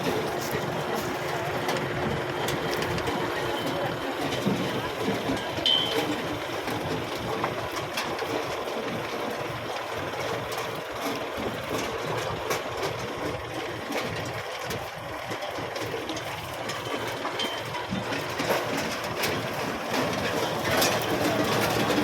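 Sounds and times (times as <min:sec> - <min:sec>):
harvesting machine engine: 0:00.0 - 0:22.0
machine rattling clatter: 0:00.0 - 0:22.0.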